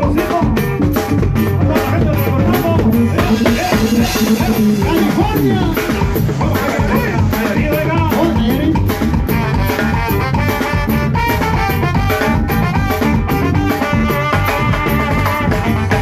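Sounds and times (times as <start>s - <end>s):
live band dance music: 0.0s - 16.0s.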